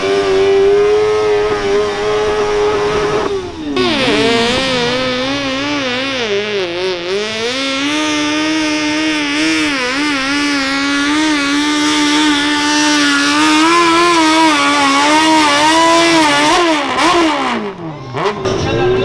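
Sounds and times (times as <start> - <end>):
tractor engine at full throttle: 0.0 - 19.0.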